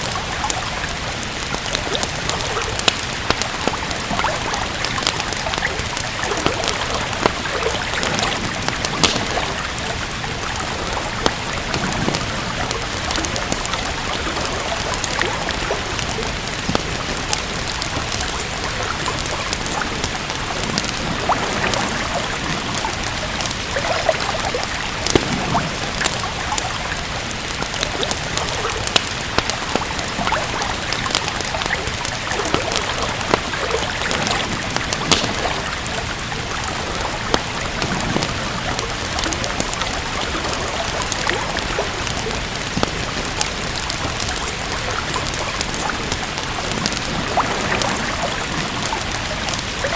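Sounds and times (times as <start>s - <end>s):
steady rain hiss: 0.0s - 49.9s
wood fire crackling: 0.0s - 49.9s.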